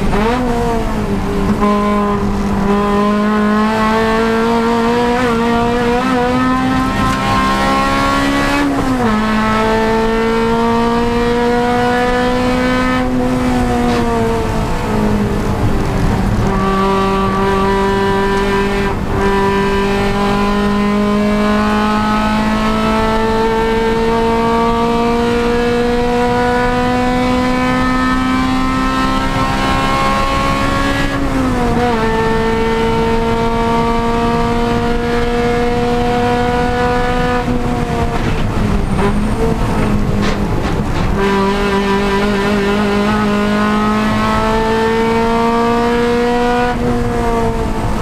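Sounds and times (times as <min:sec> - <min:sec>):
race car engine at high revs: 0:00.0 - 0:48.0.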